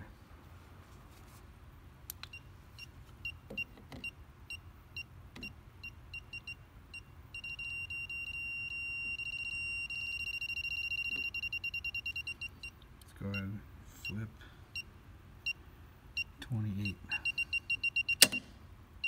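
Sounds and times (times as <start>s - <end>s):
circuit breaker finder beeping: 2.2s - 14.2s, 14.8s - 18.6s.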